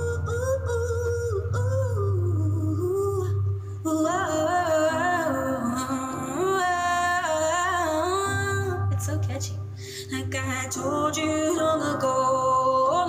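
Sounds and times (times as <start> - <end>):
woman singing wordless notes: 0.0 - 13.0.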